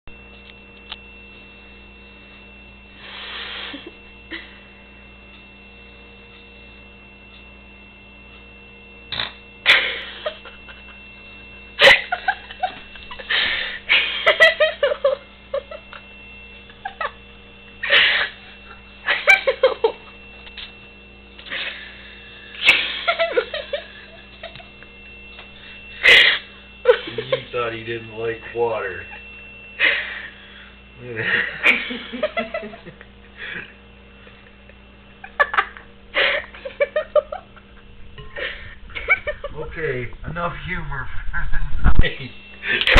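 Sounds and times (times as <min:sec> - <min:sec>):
electrical hum: 0:00.1 - 0:42.9.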